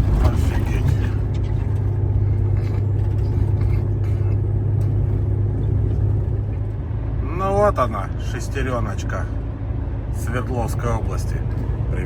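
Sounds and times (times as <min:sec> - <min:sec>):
diesel truck engine drone: 0:00.0 - 0:12.0
road noise: 0:00.0 - 0:12.0.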